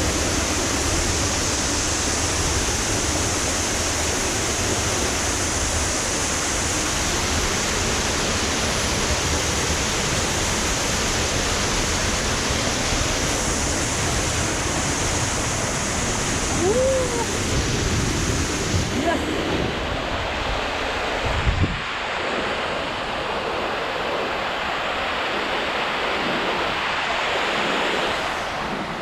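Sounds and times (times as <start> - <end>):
waterfall roar: 0.0 - 29.0.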